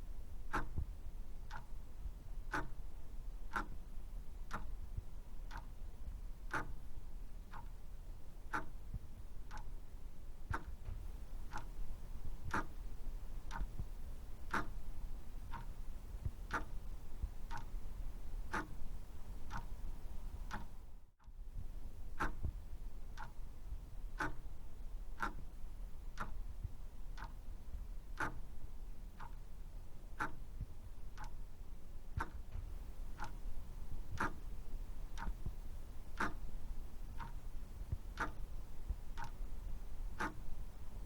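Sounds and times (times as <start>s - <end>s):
faint low hum: 0.0s - 41.0s
mechanical clock ticking: 0.5s - 3.9s, 4.5s - 7.8s, 8.4s - 21.3s, 22.2s - 23.5s, 24.1s - 24.6s, 25.2s - 31.4s, 32.1s - 41.0s.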